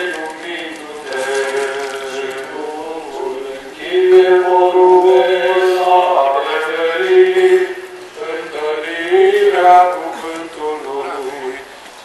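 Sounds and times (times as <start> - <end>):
voices chanting long held notes: 0.0 - 11.7.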